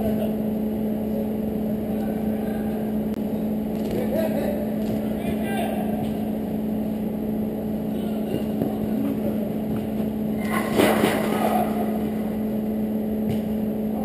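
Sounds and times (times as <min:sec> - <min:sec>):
indoor football game noise: 0:00.0 - 0:14.0
low hum: 0:00.0 - 0:14.0.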